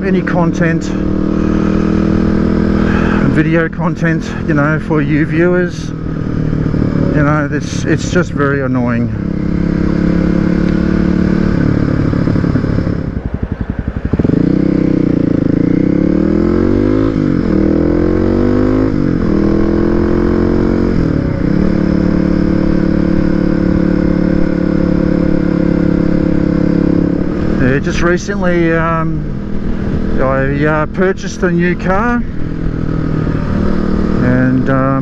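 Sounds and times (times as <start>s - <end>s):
motorcycle engine: 0.0s - 35.0s.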